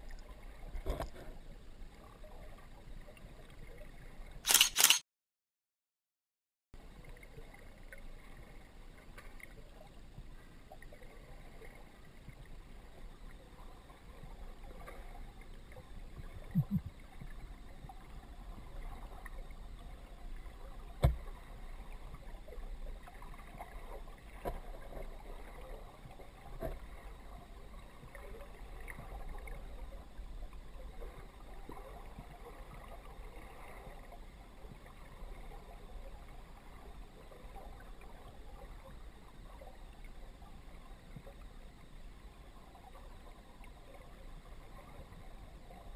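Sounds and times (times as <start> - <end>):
muffled underwater flowing water: 0.0 - 4.5, 6.8 - 45.9.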